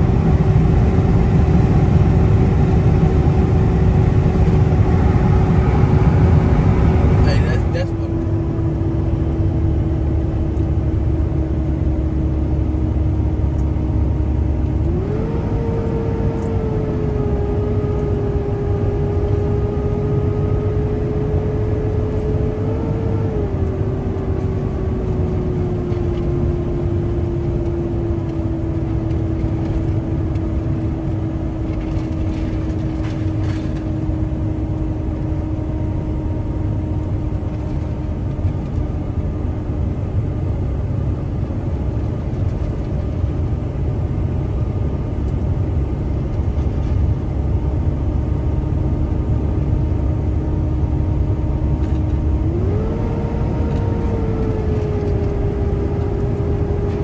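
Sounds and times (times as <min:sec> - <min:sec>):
pickup truck driving: 0:00.0 - 0:57.0.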